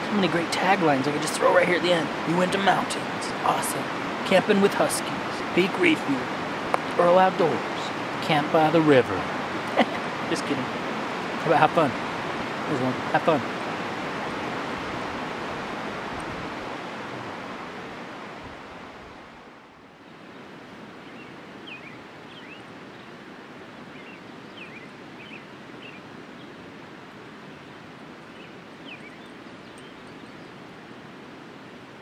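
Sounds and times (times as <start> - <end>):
river rushing: 0.0 - 32.0.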